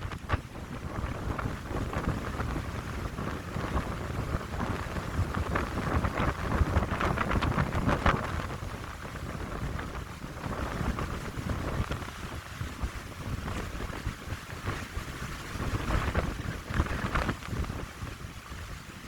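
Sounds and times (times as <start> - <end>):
wind buffeting microphone: 0.0 - 19.0
wind gusting through pines: 0.0 - 19.0.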